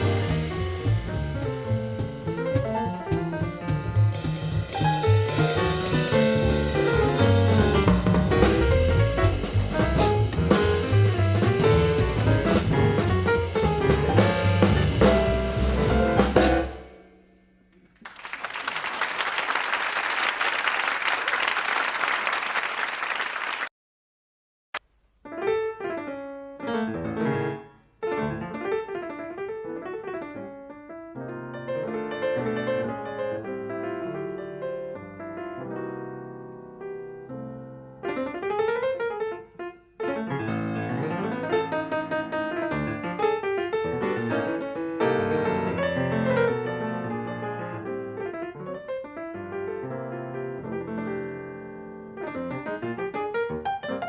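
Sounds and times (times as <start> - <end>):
jazz piano playing: 0.0 - 18.0, 25.3 - 54.0.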